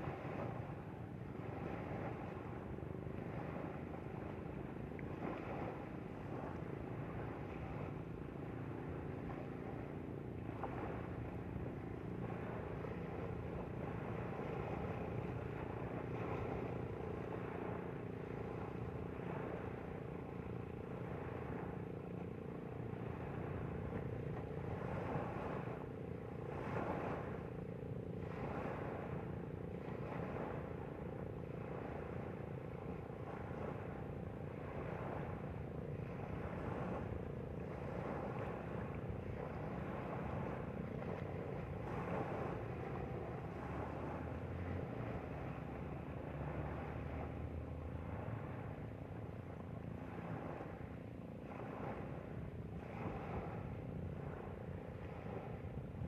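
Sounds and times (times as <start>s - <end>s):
motorboat engine running: 0.0s - 56.0s
water splashing along hull: 0.0s - 56.0s.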